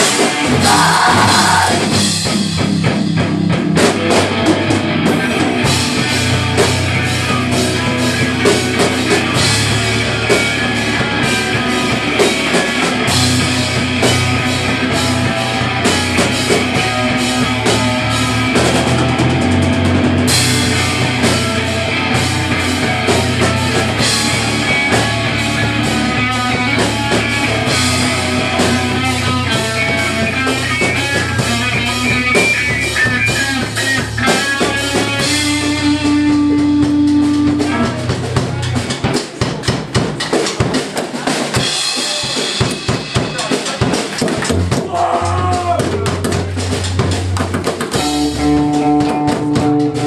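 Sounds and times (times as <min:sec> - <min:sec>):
metal band playing: 0:00.0 - 0:50.0.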